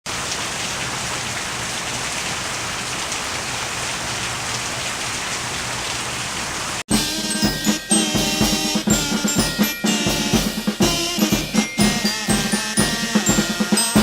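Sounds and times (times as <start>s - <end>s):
steady rain hiss: 0.1s - 14.0s.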